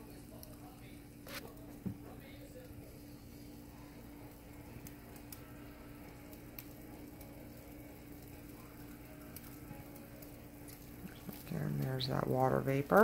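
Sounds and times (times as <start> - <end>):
steady low hum: 0.0 - 13.0
water boiling in a saucepan: 0.0 - 13.0.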